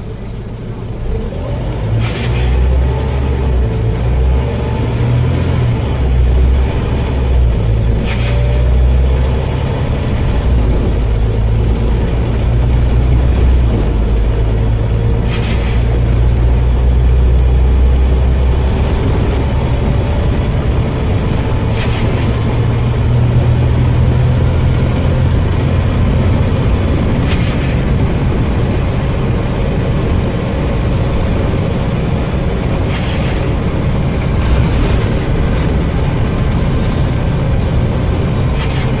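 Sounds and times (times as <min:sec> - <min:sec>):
bus engine drone: 0:00.0 - 0:39.0.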